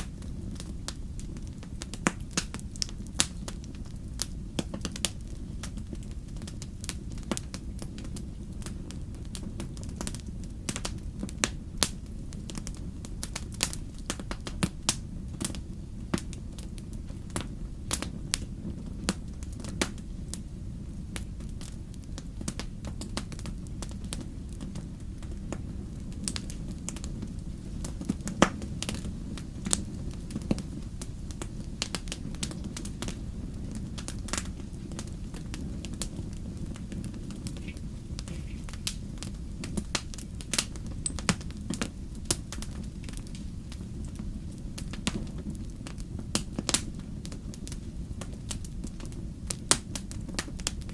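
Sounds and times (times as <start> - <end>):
fire crackling and popping: 0.0 - 50.9
low rumble of flames: 0.0 - 50.9.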